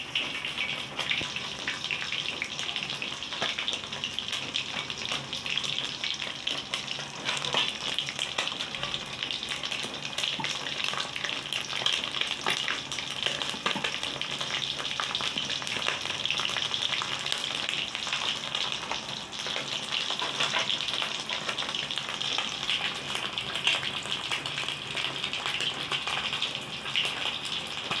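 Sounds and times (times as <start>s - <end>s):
fish frying in hot oil: 0.0s - 28.0s.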